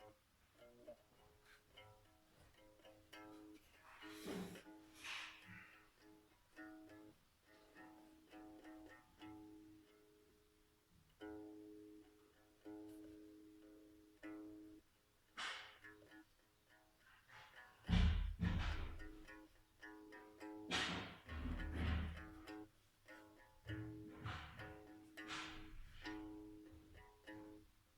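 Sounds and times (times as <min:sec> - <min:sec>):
one-string ukulele plucked: 0:00.0 - 0:05.2, 0:06.0 - 0:10.5, 0:11.2 - 0:14.8, 0:15.4 - 0:27.7.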